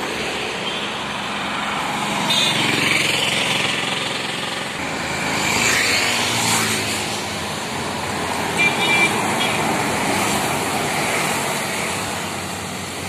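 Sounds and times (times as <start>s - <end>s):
motorcycles passing: 0.0s - 13.0s.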